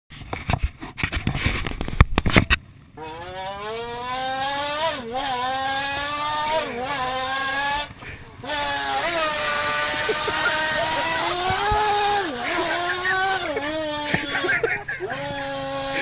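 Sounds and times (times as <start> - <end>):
vehicle engine revving: 3.0 - 16.0.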